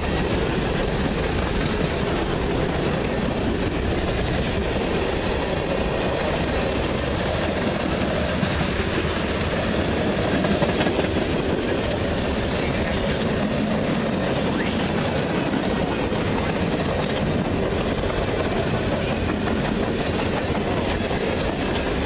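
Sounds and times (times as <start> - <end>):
train wheels rolling on rail: 0.0 - 22.0.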